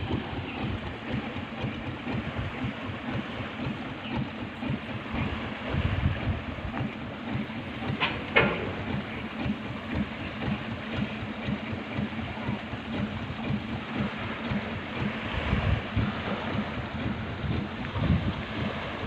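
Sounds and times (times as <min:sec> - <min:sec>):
boat rushing through water: 0:00.0 - 0:19.0
uneven low rumble: 0:00.0 - 0:19.0.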